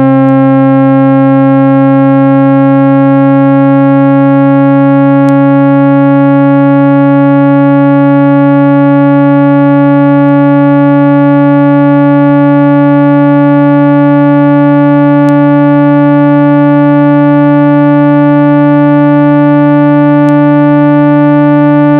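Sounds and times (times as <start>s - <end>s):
steady electronic tone: 0.0s - 21.9s.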